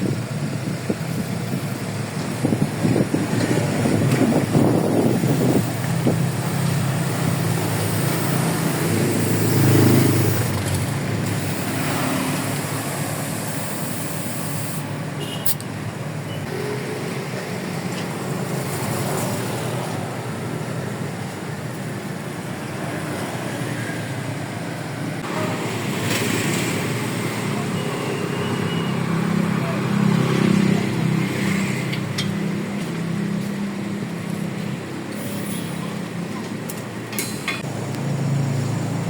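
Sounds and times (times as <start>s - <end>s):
road traffic: 0.0s - 39.0s.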